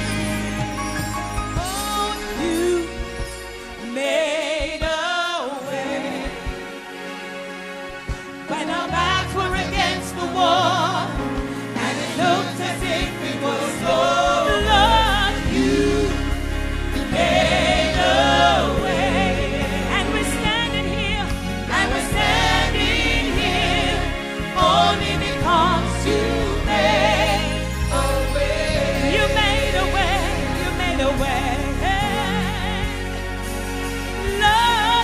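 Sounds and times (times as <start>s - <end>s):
band with steady bass: 0.0s - 4.0s, 7.7s - 35.0s.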